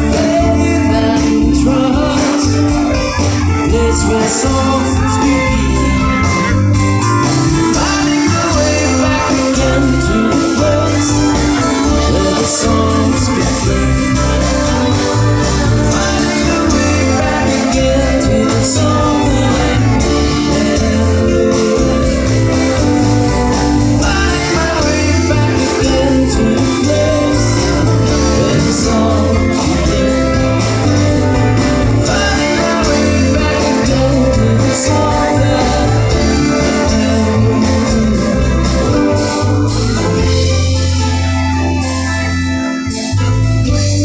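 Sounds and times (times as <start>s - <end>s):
person singing: 0.0s - 44.0s
pulsing bass beat: 0.0s - 44.0s
string band playing: 0.0s - 44.0s.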